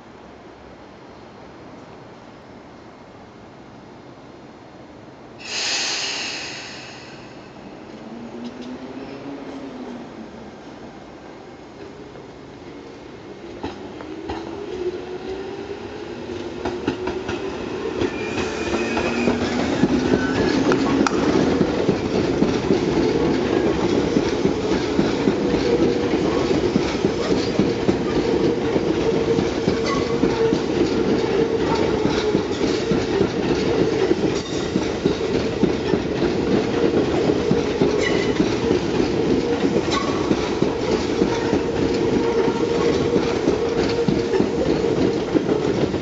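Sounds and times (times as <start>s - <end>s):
train wheels rumbling on rails: 5.4s - 10.8s, 11.6s - 46.0s.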